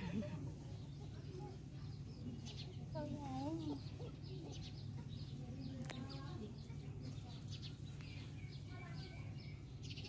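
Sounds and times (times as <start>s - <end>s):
small birds chirping: 0.0s - 10.0s
steady low hum: 0.0s - 10.0s.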